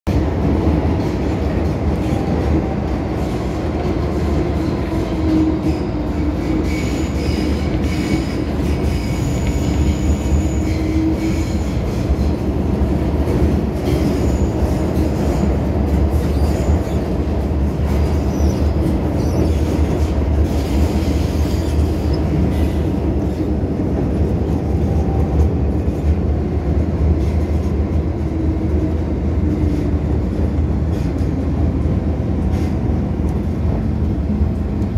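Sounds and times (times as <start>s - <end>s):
train wheels rumbling on rail: 0.1s - 34.9s.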